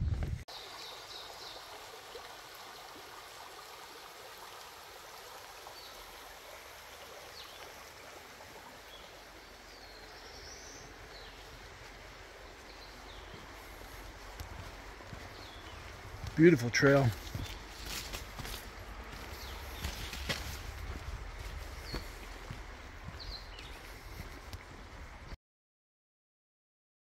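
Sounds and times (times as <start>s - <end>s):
stream rushing over rocks: 0.5s - 25.4s.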